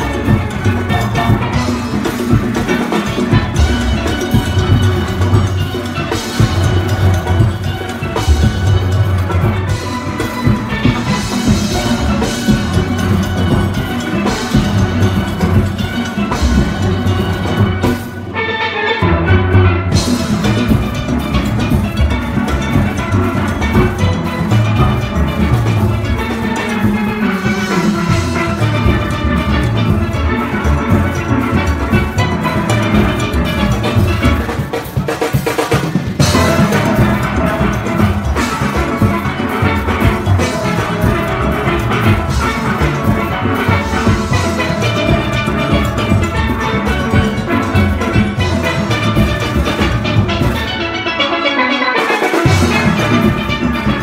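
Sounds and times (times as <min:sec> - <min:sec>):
steel band playing: 0:00.0 - 0:54.0.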